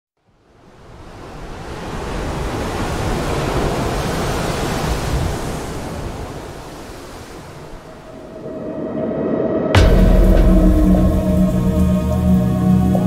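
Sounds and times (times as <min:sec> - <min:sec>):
wash of wind-like noise: 0:00.4 - 0:13.0.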